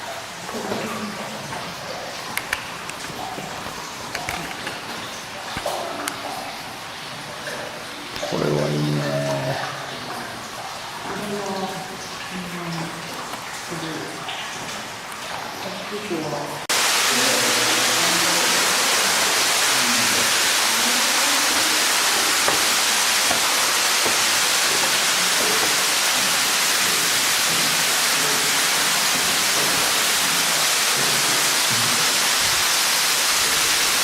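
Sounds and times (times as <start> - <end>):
waterfall splashing: 1.7 - 15.6, 16.6 - 34.0.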